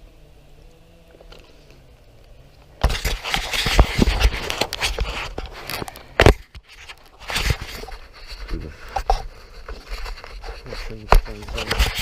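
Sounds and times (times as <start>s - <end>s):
rustling and scraping: 1.0s - 12.0s.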